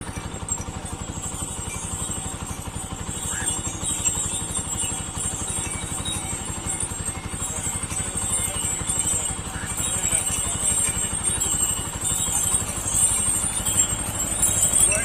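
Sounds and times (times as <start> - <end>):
engine running with low putter: 0.0 - 15.0.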